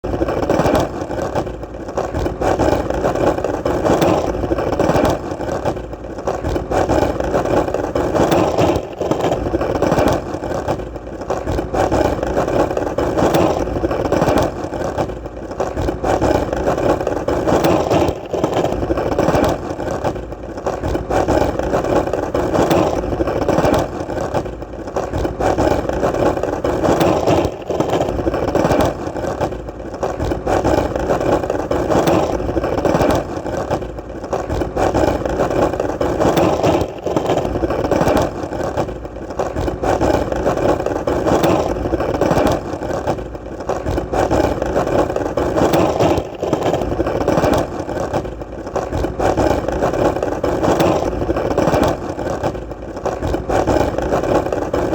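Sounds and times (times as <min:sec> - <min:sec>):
skateboard wheels rolling: 0:00.0 - 0:54.9.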